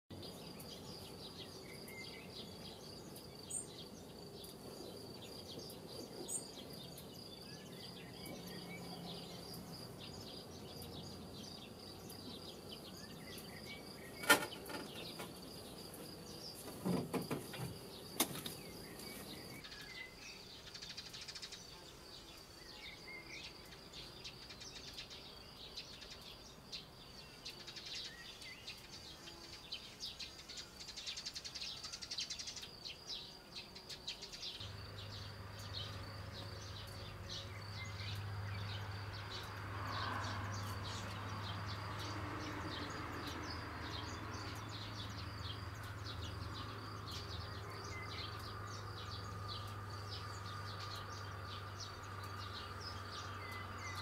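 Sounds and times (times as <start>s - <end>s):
high insect trill: 0.2s - 54.0s.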